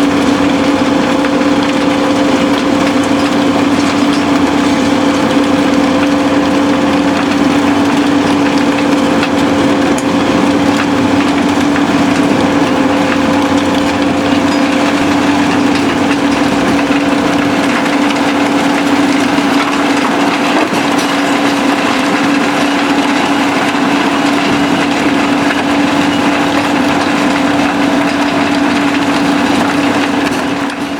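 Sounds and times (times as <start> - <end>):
excavator diesel engines: 0.0 - 30.9
impact crusher droning: 0.0 - 30.9
rubble crunching and rattling: 0.0 - 30.9.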